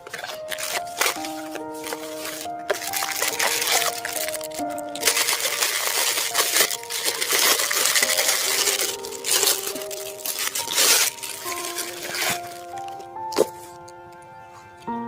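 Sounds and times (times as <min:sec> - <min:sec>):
packaging crinkling and rustling: 0:00.0 - 0:14.9
background music: 0:00.0 - 0:15.0.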